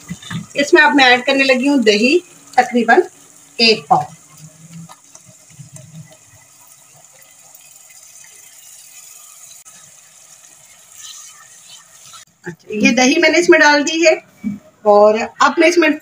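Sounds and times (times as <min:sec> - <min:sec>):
masala sizzling in hot oil: 0:00.0 - 0:14.2.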